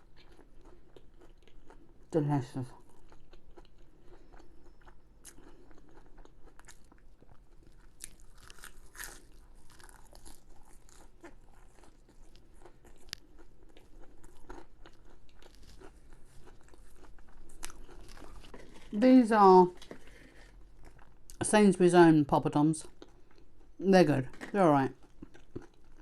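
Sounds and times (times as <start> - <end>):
chewing crisp food: 0.0 - 19.0, 19.7 - 21.4, 22.8 - 26.0.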